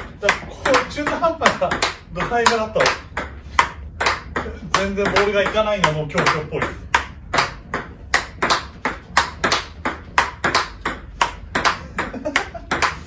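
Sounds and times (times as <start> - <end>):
table tennis ball clicking: 0.0 - 13.0.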